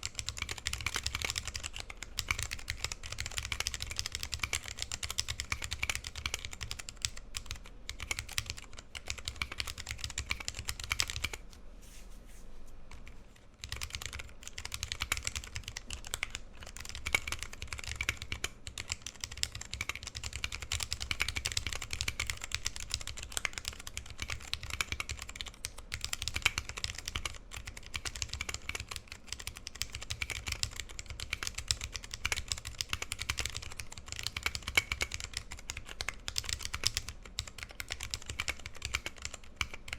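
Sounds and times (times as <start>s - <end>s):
typing on mechanical keyboard: 0.0s - 11.4s, 13.6s - 39.9s.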